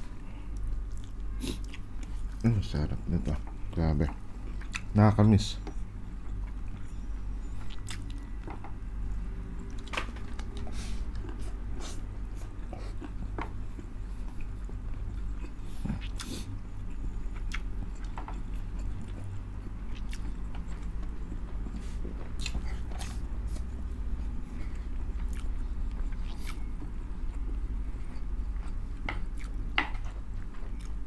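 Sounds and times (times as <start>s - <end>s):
steady low hum: 0.0s - 31.0s
chewing and lip smacking: 0.5s - 2.5s, 4.1s - 5.0s, 5.7s - 8.3s, 9.6s - 31.0s.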